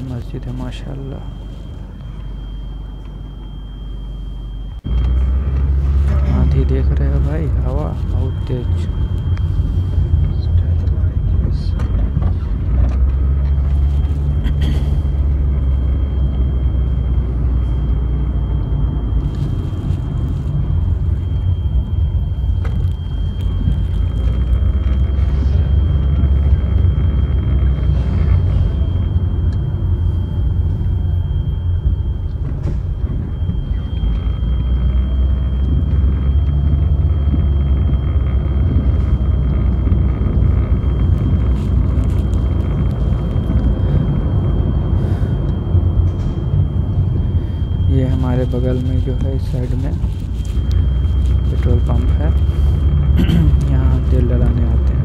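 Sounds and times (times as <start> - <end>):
road and engine noise: 0.0 - 55.0.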